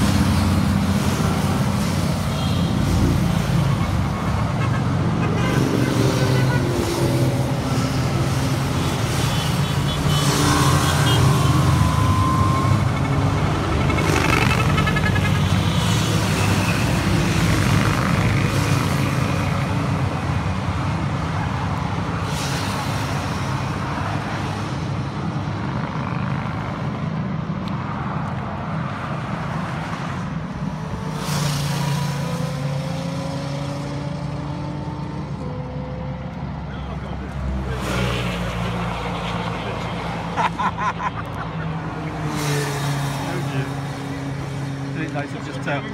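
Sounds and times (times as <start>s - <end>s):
vehicles passing on motorway: 0.0s - 45.9s.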